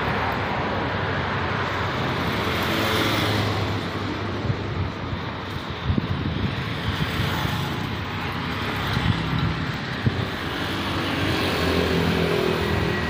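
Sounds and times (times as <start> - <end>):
road traffic noise: 0.0 - 13.0
vehicle engine: 0.0 - 13.0.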